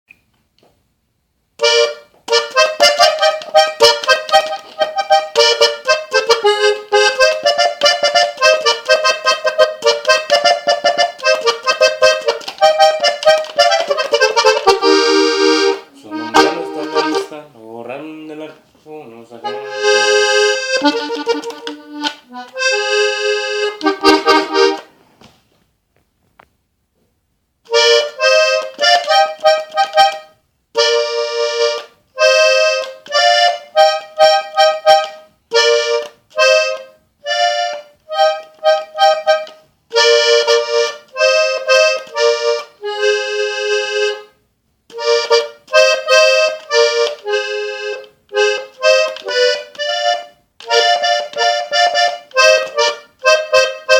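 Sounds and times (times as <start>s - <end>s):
button accordion melody: 1.6s - 17.5s, 19.3s - 24.9s, 27.7s - 53.9s.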